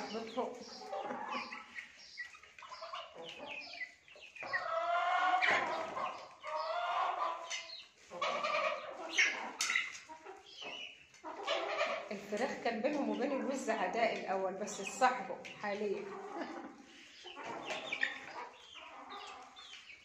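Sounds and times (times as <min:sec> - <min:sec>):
chickens and goose calling: 0:00.0 - 0:20.0.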